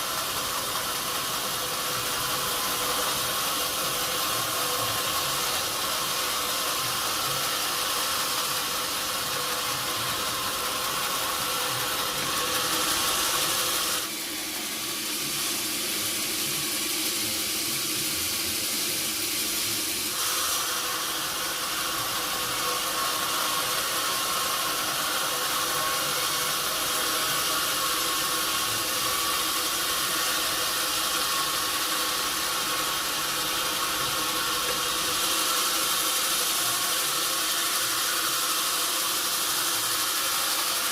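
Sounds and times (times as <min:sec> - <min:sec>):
machinery hum: 0:00.0 - 0:40.9
sawmill machinery hissing: 0:00.0 - 0:40.9.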